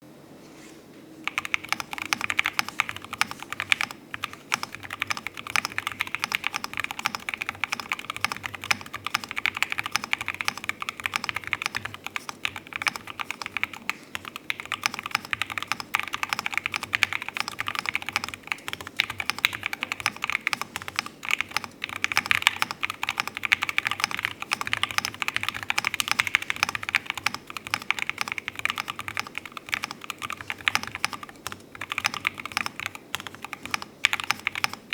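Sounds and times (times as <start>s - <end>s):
mechanical keyboard typing: 1.3s - 34.9s.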